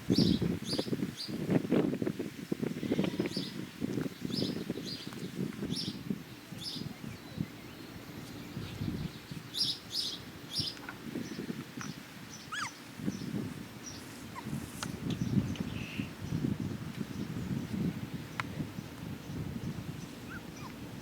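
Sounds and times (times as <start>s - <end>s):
small birds chirping: 0.1s - 1.4s, 3.0s - 21.0s.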